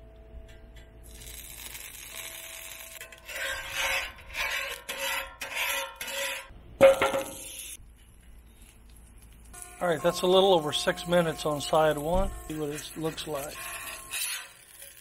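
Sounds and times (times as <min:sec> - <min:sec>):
spatula scraping steel griddle: 0:01.1 - 0:07.8, 0:09.6 - 0:15.0.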